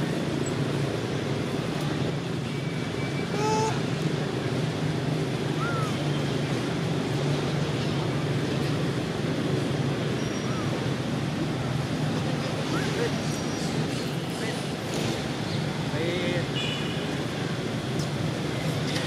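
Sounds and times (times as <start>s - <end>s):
low hum of distant traffic: 0.0s - 19.0s.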